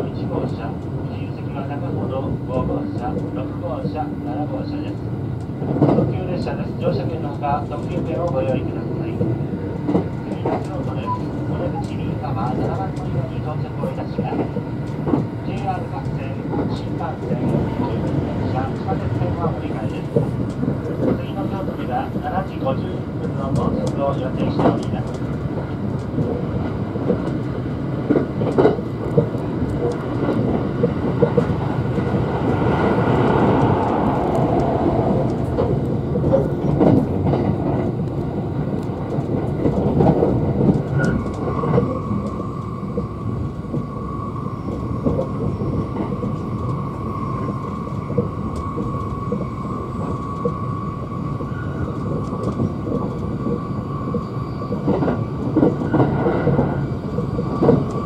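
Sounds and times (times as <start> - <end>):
train wheels rumbling on rails: 0.0 - 58.0
rail joint clicks: 0.2 - 58.0.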